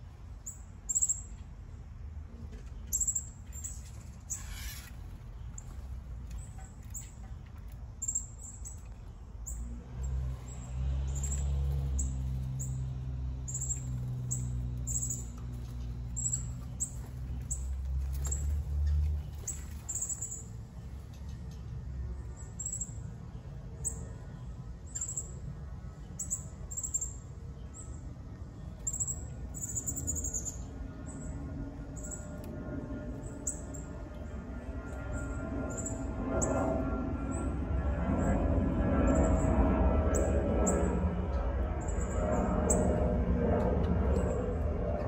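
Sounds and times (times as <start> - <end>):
songbirds chirping: 0.0 - 36.6
low steady hum: 0.0 - 45.0.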